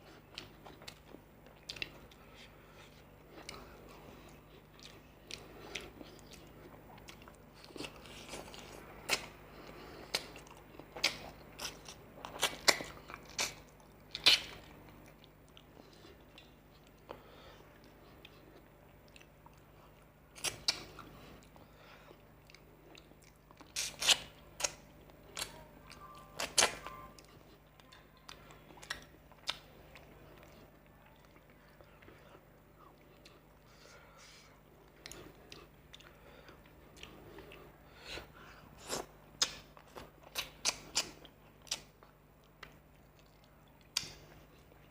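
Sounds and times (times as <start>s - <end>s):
close chewing and biting: 0.0s - 44.9s.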